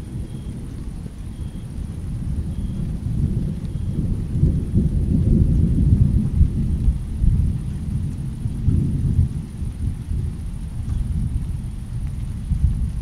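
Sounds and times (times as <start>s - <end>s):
low rolling thunder: 0.0s - 13.0s.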